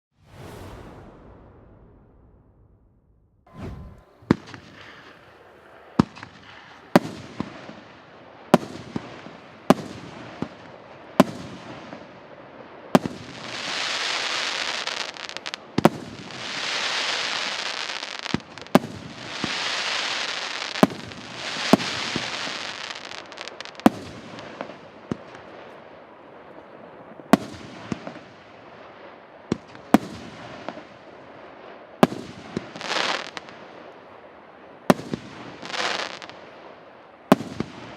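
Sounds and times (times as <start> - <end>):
firework bangs: 0.2 - 12.2, 13.0 - 25.8, 27.3 - 33.9, 34.9 - 37.9.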